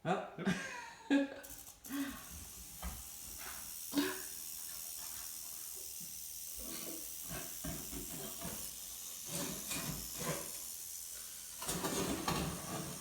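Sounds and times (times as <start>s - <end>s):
rattlesnake rattling: 1.4s - 13.0s.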